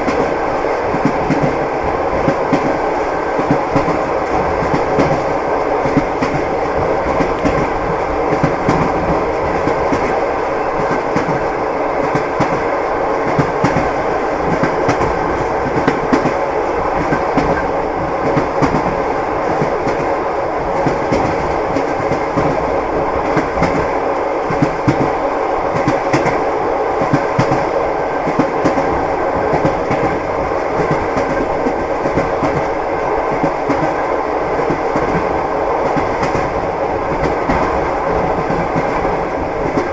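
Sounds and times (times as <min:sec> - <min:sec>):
railway carriage rumble: 0:00.0 - 0:39.9
train wheels clattering: 0:00.0 - 0:39.9.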